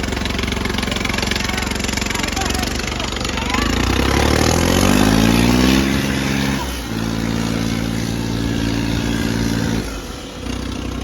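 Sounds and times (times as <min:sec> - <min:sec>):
diesel tractor engine revving: 0:00.0 - 0:11.0.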